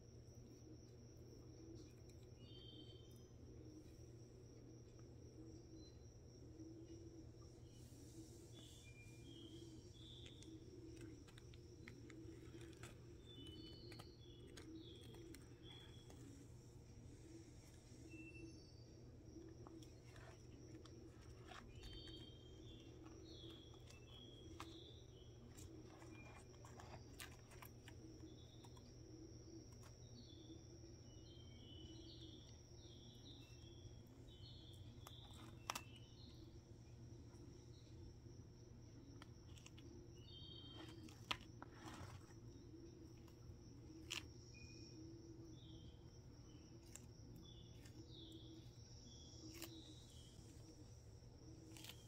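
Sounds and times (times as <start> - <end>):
steady low hum: 0.0 - 52.0
tortoise chewing lettuce: 6.9 - 52.0.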